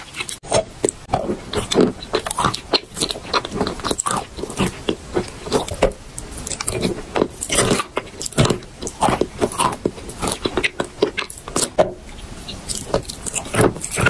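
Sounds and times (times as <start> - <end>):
wet crunching while chewing chalk: 0.0 - 14.0.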